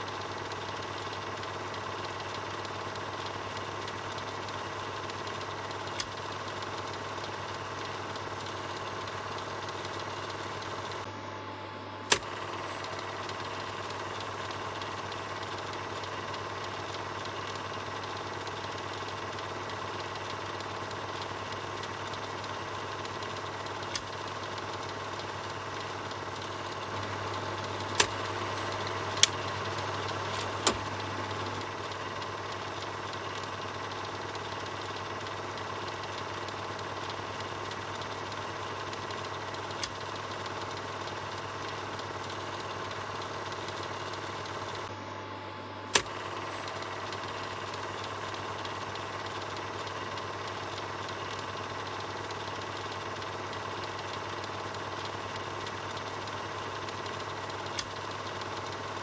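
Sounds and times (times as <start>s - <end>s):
sharp clicks: 0.0s - 11.1s, 12.1s - 44.9s, 45.9s - 59.0s
film projector whirring: 0.0s - 59.0s.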